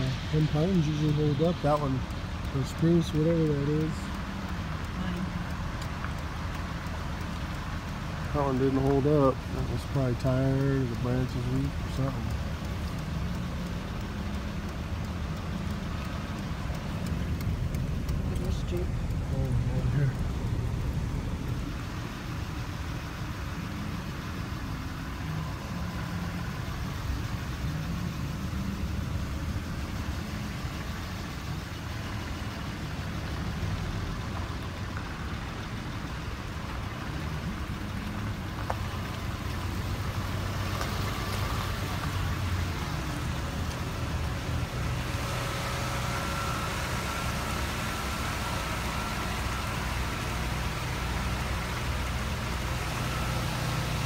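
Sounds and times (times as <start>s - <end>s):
vehicle engine rumble: 0.0s - 54.0s.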